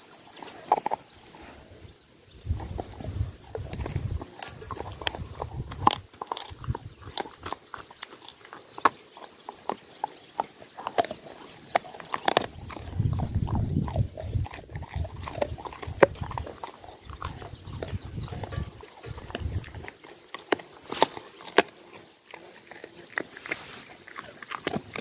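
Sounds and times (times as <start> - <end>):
dog gnawing on bone: 2.4 - 25.0.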